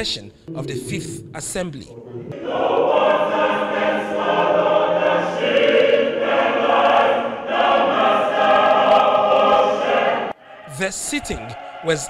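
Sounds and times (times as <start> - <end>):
choir singing: 0.5 - 12.0.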